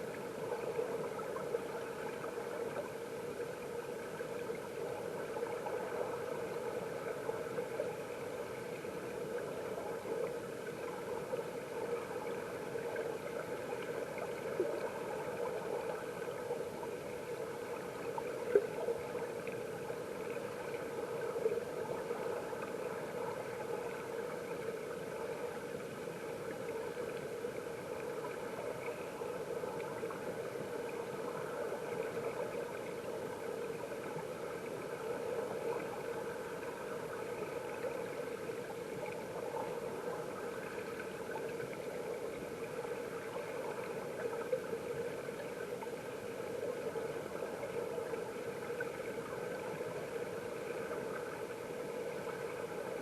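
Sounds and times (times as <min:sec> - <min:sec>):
muffled underwater stream rushing: 0:00.0 - 0:53.0.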